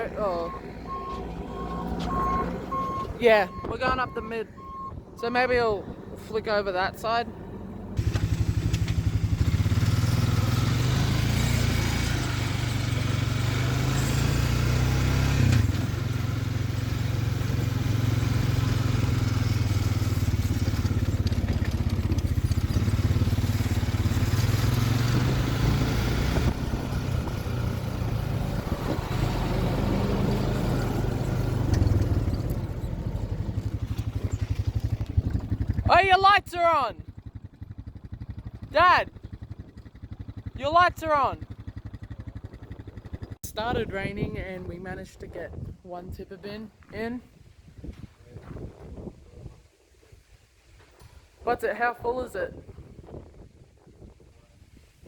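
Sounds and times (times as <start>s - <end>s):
tractor engine droning: 0.0s - 45.6s.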